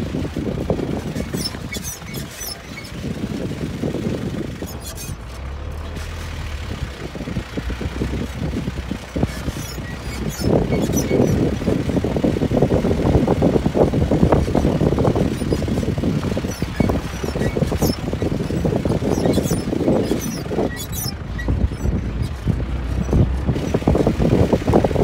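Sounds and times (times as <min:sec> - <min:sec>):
jeep engine and road rumble: 0:00.0 - 0:25.0.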